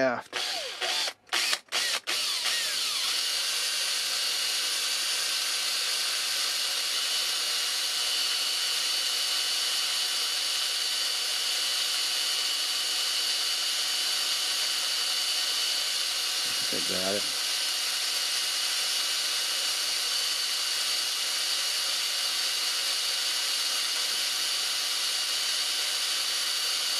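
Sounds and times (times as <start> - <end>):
power drill drilling through steel: 0.0 - 26.9.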